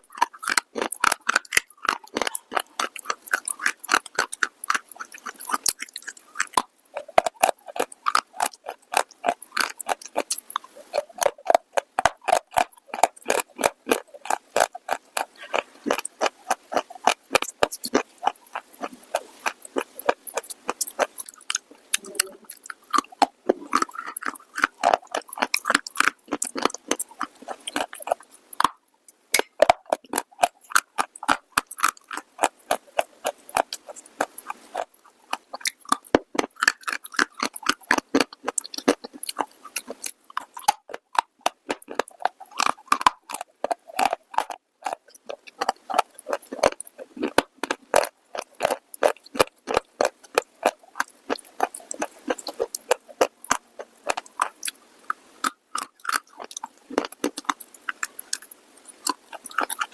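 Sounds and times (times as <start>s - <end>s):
crunching and chewing brittle clay: 0.0s - 59.9s.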